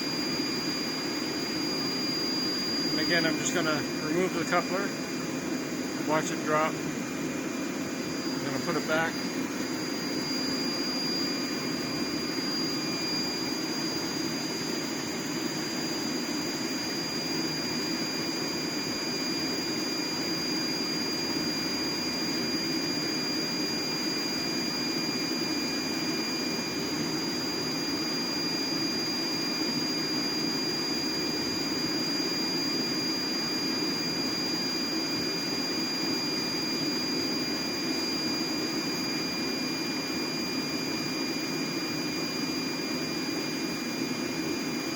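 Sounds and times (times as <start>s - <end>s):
propane heater burner rush: 0.0s - 44.9s
thin high whine: 0.0s - 44.9s.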